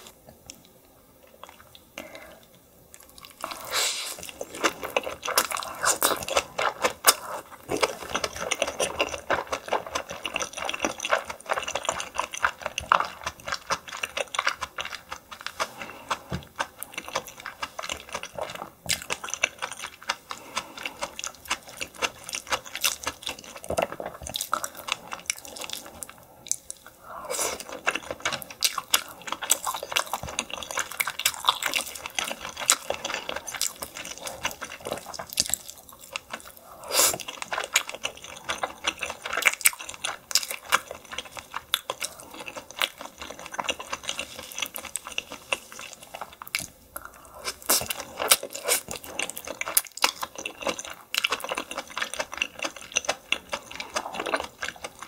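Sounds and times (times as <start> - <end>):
wet chewing and mouth sounds: 0.0 - 55.0.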